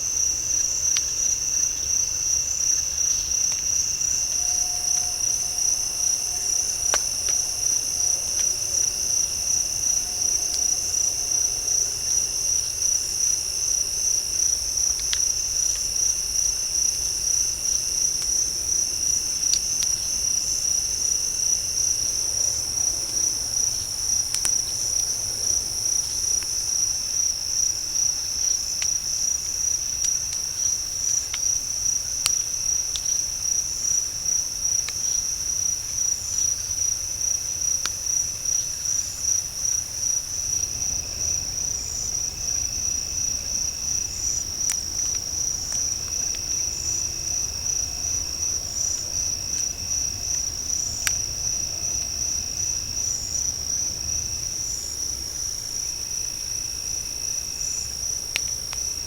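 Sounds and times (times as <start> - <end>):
crickets chirping chorus: 0.0 - 59.0.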